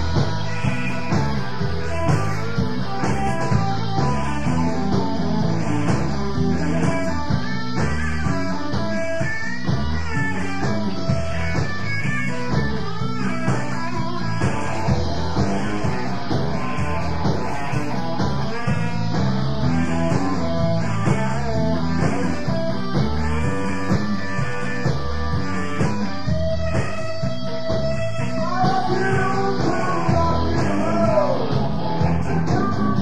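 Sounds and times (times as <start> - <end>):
guitar-led rock song: 0.0 - 33.0.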